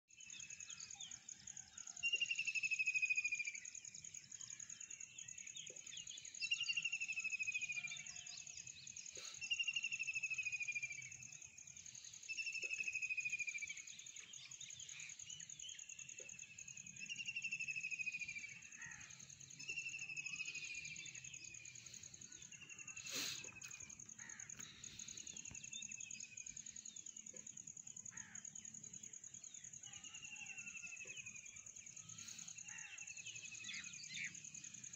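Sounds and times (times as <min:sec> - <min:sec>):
insects trilling: 0:00.1 - 0:34.9.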